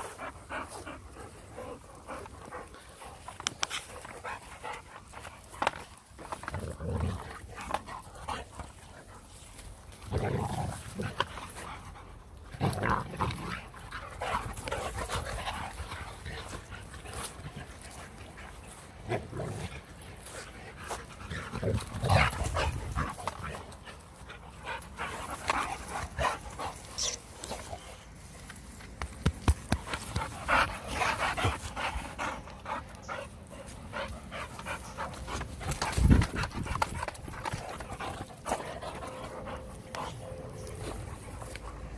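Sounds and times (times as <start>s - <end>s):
dogs panting hard: 0.0s - 6.5s, 10.8s - 12.5s, 13.5s - 28.3s, 29.0s - 41.9s.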